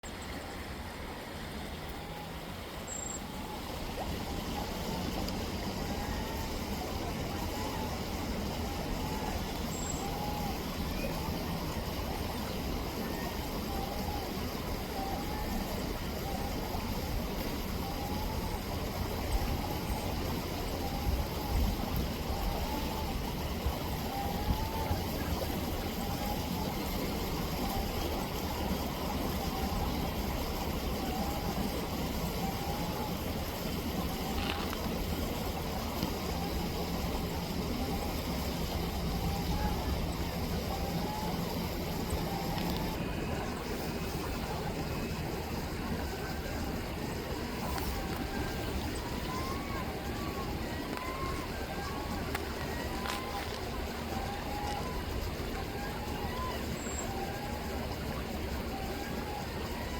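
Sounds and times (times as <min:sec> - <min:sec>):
gulls calling: 0:00.0 - 0:59.9
rippling river water: 0:00.0 - 0:59.9.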